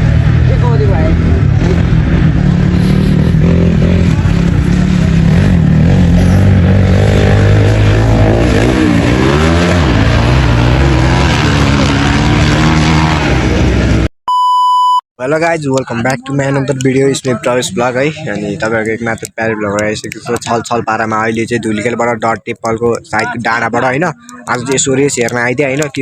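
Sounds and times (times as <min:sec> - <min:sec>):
dirt bike engines revving: 0:00.0 - 0:14.1, 0:15.7 - 0:26.0.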